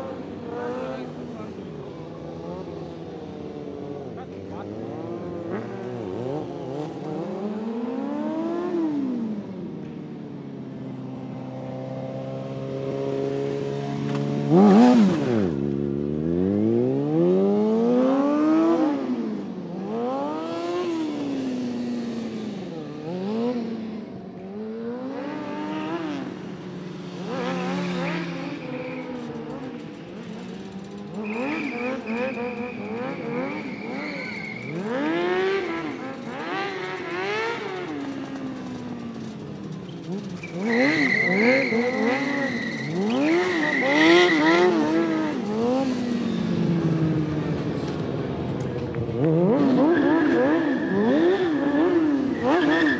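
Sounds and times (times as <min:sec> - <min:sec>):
vehicle engines revving: 0:00.0 - 0:52.9.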